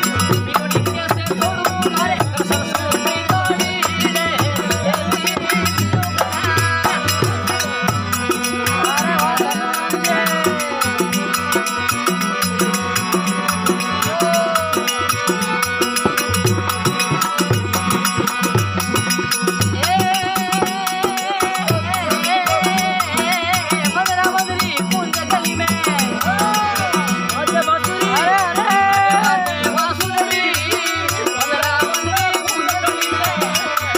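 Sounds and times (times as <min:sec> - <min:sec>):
quick percussion beat: 0:00.0 - 0:33.9
wavering melody: 0:00.0 - 0:33.9.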